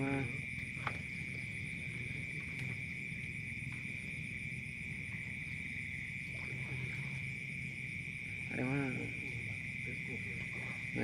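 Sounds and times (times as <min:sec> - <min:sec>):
night insects droning: 0:00.0 - 0:11.0.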